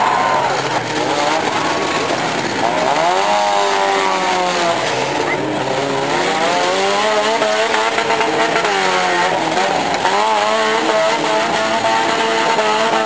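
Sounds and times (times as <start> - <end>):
car engines revving: 0.0 - 13.0
cars ramming knocks: 0.2 - 13.0.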